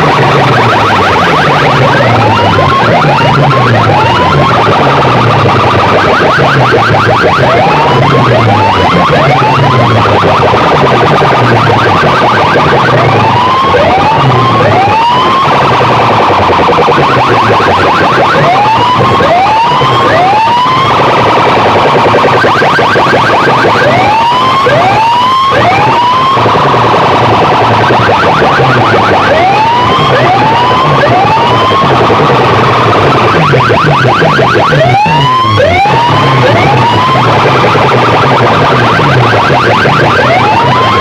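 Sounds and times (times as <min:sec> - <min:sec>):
pulsing bass: 0:00.0 - 0:41.0
rising siren-like sweeps: 0:00.0 - 0:41.0.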